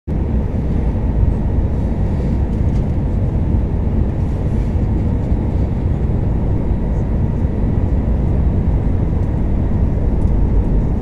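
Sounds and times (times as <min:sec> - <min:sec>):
faint steady whine: 0:00.1 - 0:11.0
jet engines in aircraft cabin: 0:00.1 - 0:11.0.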